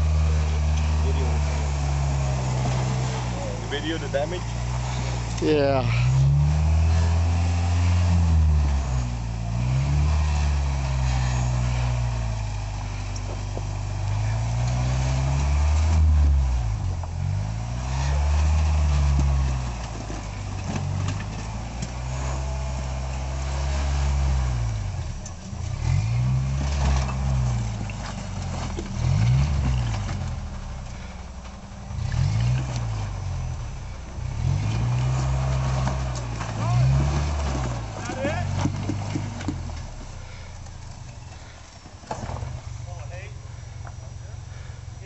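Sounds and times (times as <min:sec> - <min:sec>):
truck engine revving: 0:00.0 - 0:45.0.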